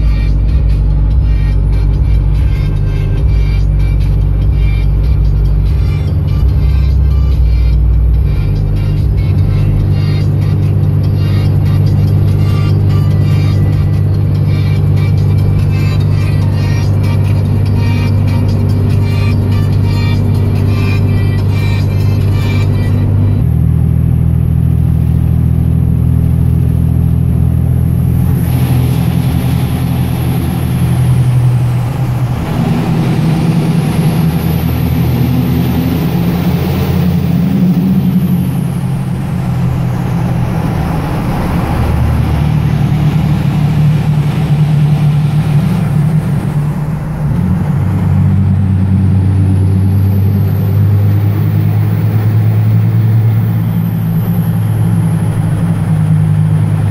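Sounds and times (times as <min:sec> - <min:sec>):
diesel engine while driving: 0:00.0 - 0:56.9.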